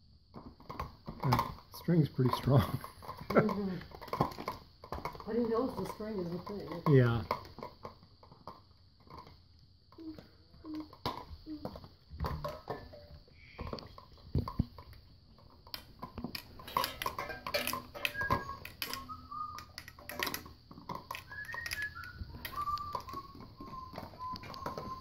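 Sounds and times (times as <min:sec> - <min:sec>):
plastic cups and cans clattering: 0:00.3 - 0:09.4, 0:10.0 - 0:25.0.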